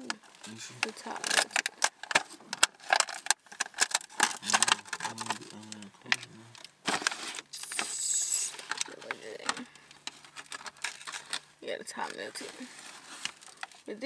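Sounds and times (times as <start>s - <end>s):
foil rim crinkling and clicking: 0.0s - 14.0s
foil lid rustling: 0.1s - 5.6s, 6.8s - 14.0s.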